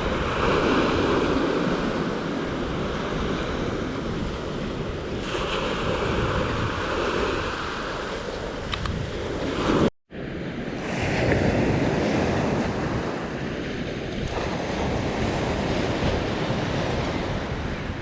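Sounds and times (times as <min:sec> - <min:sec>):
waves washing onto beach: 0:00.0 - 0:18.0
wind buffeting microphone: 0:00.0 - 0:18.0.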